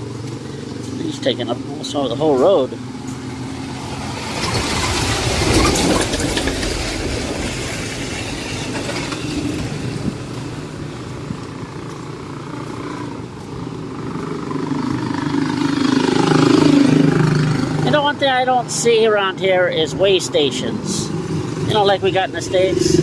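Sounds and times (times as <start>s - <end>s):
road traffic: 0.0s - 23.0s
truck passing: 0.0s - 23.0s.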